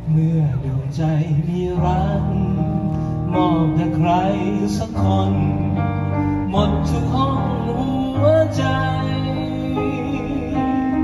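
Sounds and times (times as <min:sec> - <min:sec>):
bass: 0:00.0 - 0:11.0
keyboard: 0:00.0 - 0:11.0
person singing: 0:00.0 - 0:11.0.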